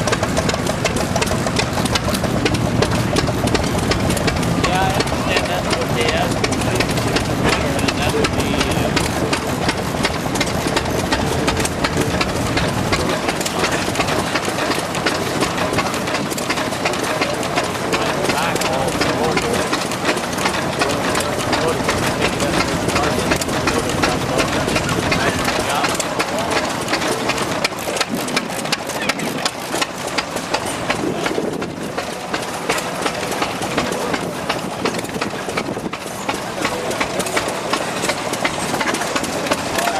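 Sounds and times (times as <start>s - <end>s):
murmur of voices: 0.0s - 39.9s
stationary engines clattering: 0.0s - 39.9s.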